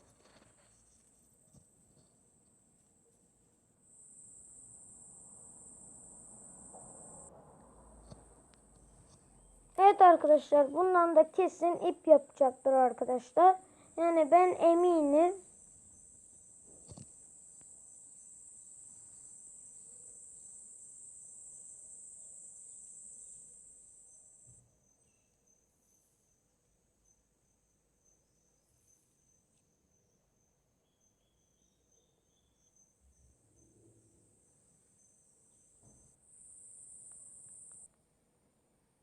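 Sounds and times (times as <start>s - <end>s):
high-pitched insect chirring: 3.9s - 7.3s, 9.8s - 37.9s.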